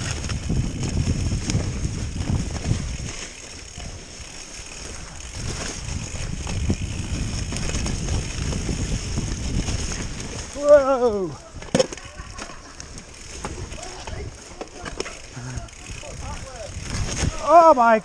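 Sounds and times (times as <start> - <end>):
bike rattling over bumps: 0.0 - 18.0
bike tyres on dirt trail: 0.0 - 18.0.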